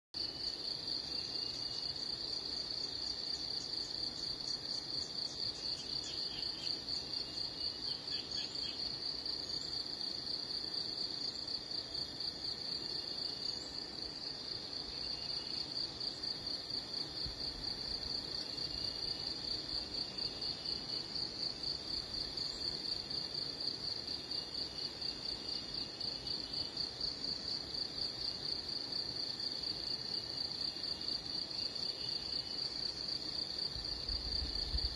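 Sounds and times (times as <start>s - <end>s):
insects trilling: 0.2s - 34.9s.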